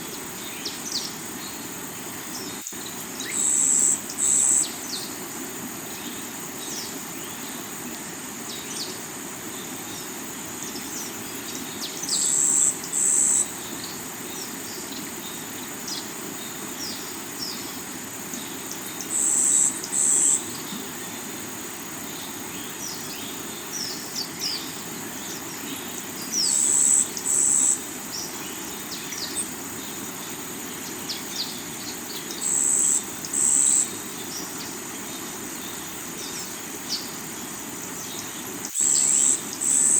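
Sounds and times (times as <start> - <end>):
insect high buzzes: 0.0 - 39.9
river water running over rocks: 0.0 - 39.9.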